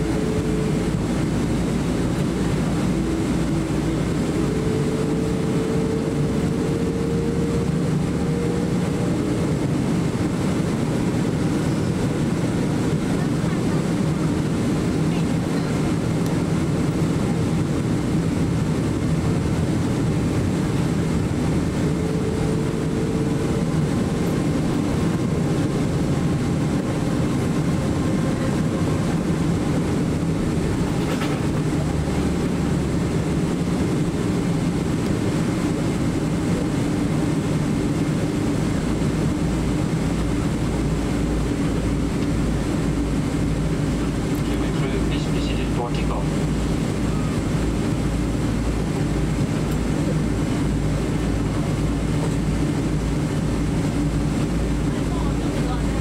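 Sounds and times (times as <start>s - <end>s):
deep low rumble: 0.0s - 56.0s
jet engine hum: 0.0s - 56.0s.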